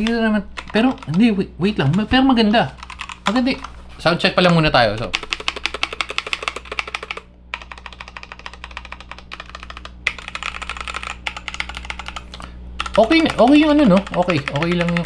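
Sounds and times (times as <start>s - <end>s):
fast typing on keyboard: 0.0s - 15.0s.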